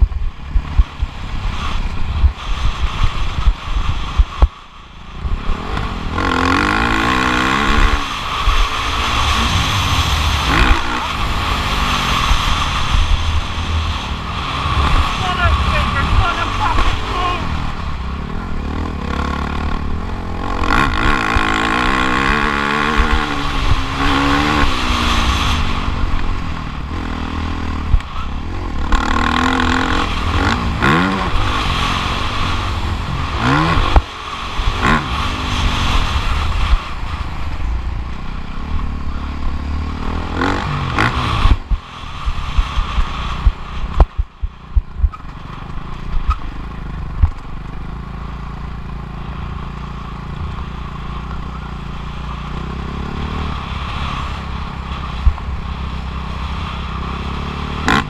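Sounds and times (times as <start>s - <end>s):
wind rumble on microphone: 0.0s - 49.5s, 50.1s - 58.0s
motocross bike engine revving: 0.0s - 58.0s.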